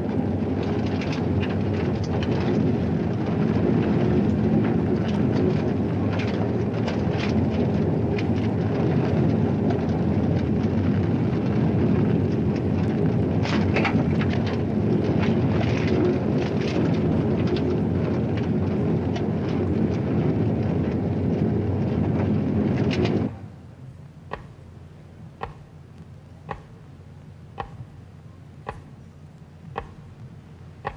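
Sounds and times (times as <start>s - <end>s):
low rumble with crackles: 0.0s - 30.9s.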